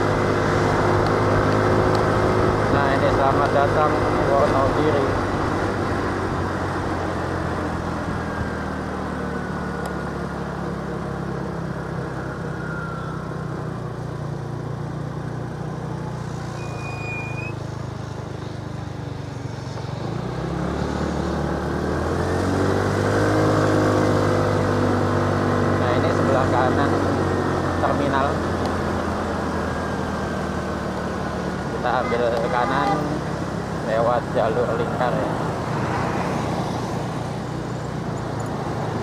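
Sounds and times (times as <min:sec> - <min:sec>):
road noise: 0:00.0 - 0:39.0
vehicle engine: 0:00.0 - 0:39.0.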